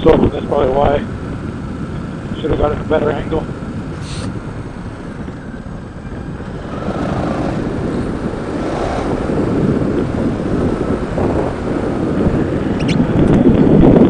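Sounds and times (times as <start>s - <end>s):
motorcycle engine rumble: 0.0s - 14.0s
wind rushing over microphone: 0.0s - 14.0s.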